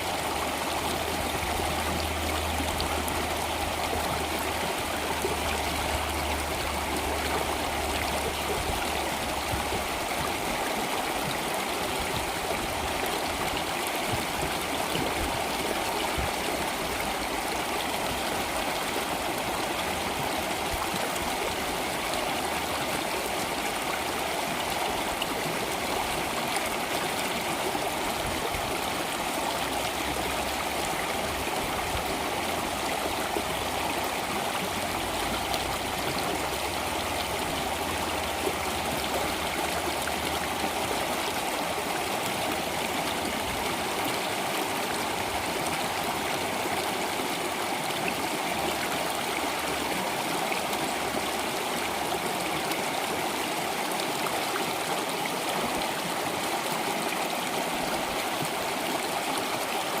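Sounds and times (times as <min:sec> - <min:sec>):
flowing water rushing: 0:00.0 - 1:00.0.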